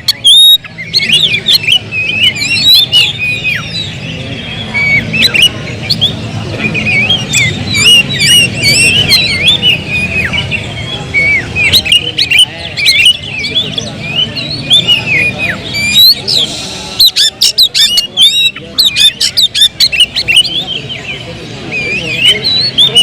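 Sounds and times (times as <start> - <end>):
bird singing whistles and chirps: 0.0 - 23.0
low background noise: 0.0 - 23.0.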